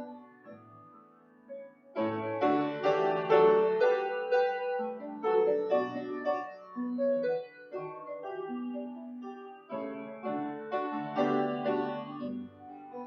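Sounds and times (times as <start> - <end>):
slow piano piece: 0.0 - 13.0.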